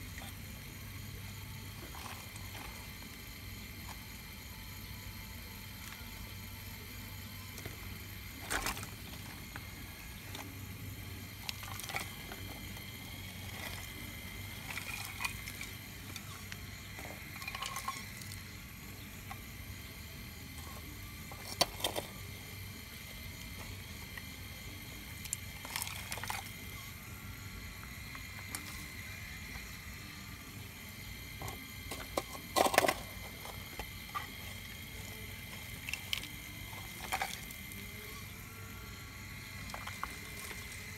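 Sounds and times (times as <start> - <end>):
model excavator motor whine: 0.0 - 40.9.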